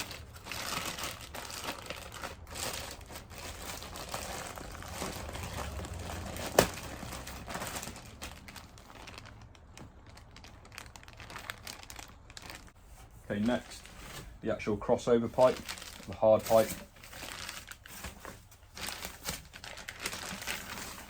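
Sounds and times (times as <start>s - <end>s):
packaging crumpling and rustling: 0.0s - 14.4s, 15.2s - 21.0s.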